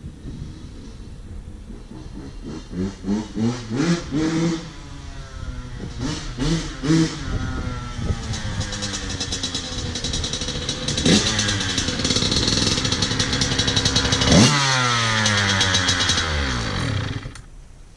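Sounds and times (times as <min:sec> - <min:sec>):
dirt bike engine revving: 0:00.5 - 0:17.4.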